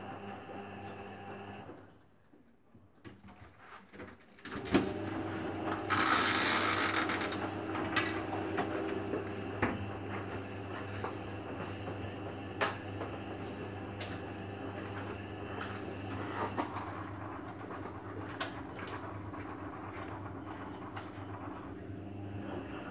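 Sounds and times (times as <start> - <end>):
washing machine drum motor hum: 0.0 - 1.7, 4.6 - 22.9.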